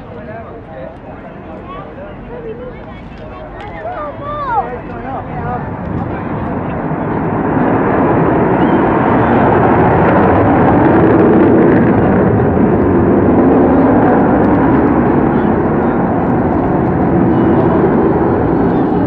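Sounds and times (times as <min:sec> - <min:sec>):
jet bomber engines roaring: 0:00.0 - 0:19.0.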